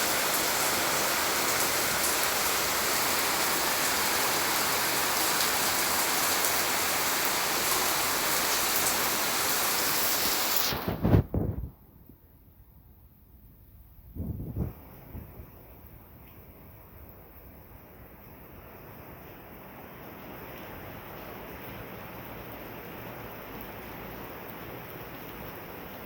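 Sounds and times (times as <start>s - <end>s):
heavy rain: 0.0s - 11.2s, 14.5s - 26.0s.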